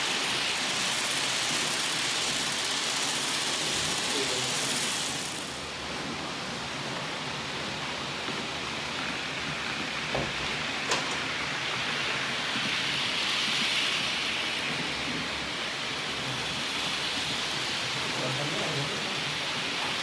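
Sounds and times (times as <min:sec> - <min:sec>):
model train wheels on rails: 0:00.0 - 0:20.0.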